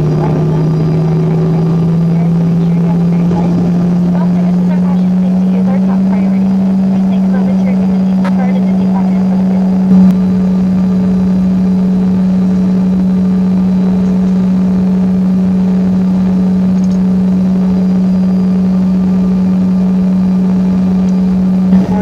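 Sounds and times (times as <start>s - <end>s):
jet cabin drone: 0.0s - 22.0s.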